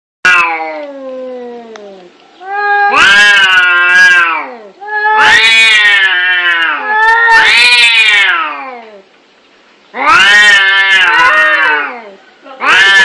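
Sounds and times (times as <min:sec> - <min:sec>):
cats yowling in a fight: 0:00.3 - 0:09.1, 0:09.9 - 0:13.0.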